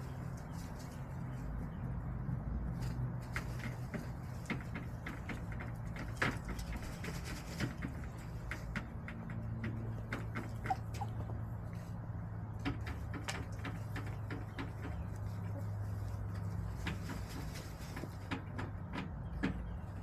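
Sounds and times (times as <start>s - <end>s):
hens scratching and pecking in dirt: 0.0s - 20.0s.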